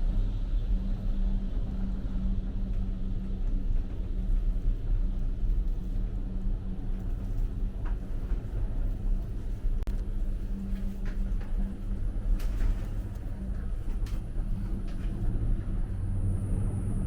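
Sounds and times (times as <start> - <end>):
engine rumble: 0.0 - 17.0.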